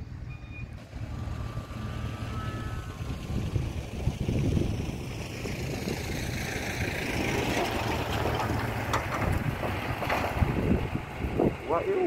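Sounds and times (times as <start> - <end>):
wind buffeting microphone: 1.4 - 12.0.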